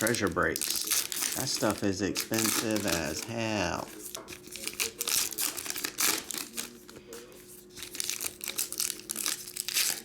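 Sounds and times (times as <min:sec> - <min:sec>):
wrappers crinkling and tearing: 0:00.0 - 0:10.0.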